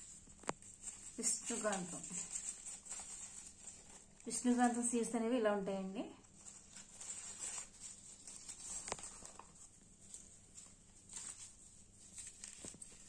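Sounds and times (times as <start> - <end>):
paper packet crinkling: 0.0 - 5.2, 6.2 - 13.0.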